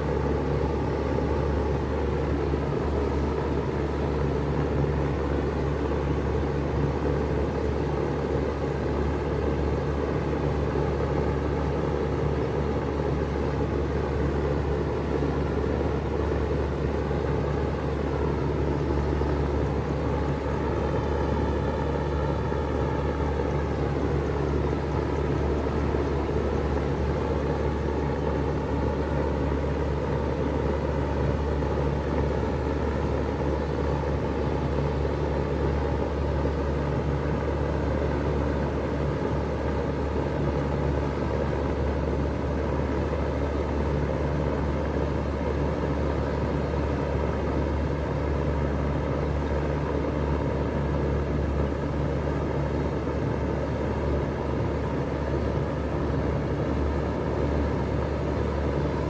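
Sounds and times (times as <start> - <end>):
heat pump running: 0.0 - 59.0.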